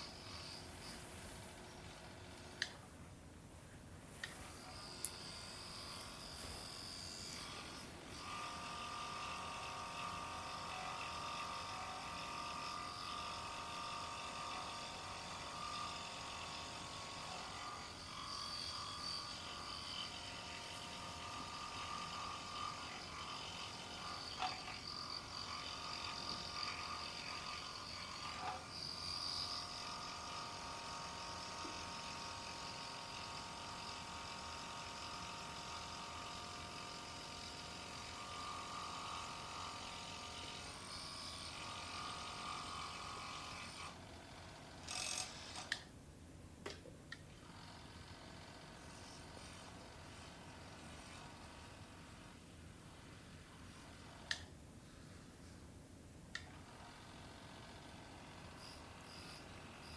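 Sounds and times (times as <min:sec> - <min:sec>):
scroll saw buzzing whine: 0:00.0 - 0:02.9, 0:04.3 - 0:45.9, 0:56.4 - 0:59.9.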